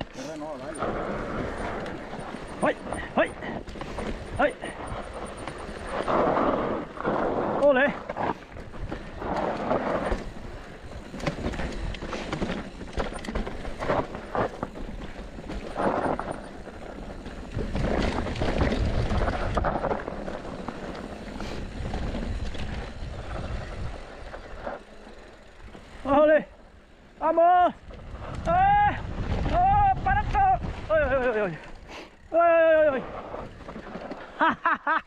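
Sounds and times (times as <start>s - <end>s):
bike knocking and rattling: 0.0s - 26.8s, 27.7s - 35.0s.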